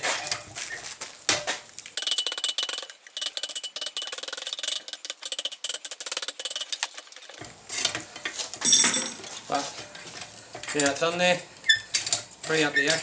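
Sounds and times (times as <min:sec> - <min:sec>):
metallic clicking and scraping: 0:01.3 - 0:13.0.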